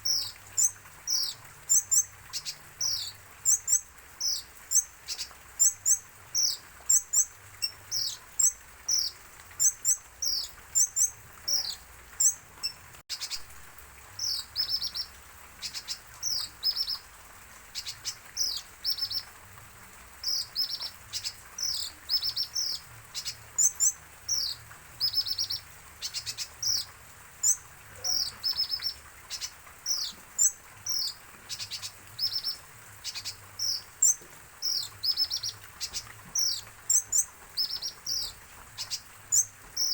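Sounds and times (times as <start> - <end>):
bird chirping: 0.0 - 13.5, 14.2 - 17.0, 17.7 - 19.3, 20.2 - 39.9.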